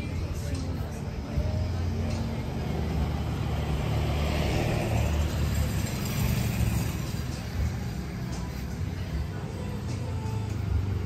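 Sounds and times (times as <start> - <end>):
vehicle engine running: 0.0 - 11.0
vehicle passing: 0.0 - 11.0.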